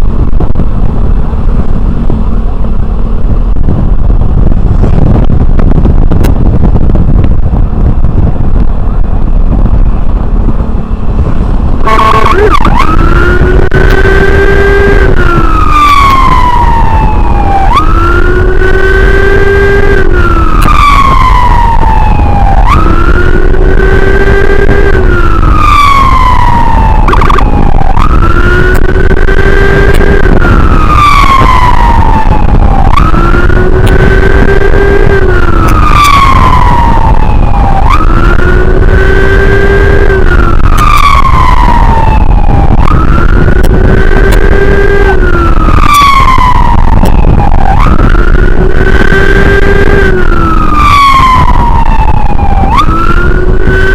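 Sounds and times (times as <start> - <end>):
emergency siren wailing: 0.0 - 53.9
wind rumble on microphone: 0.0 - 53.9.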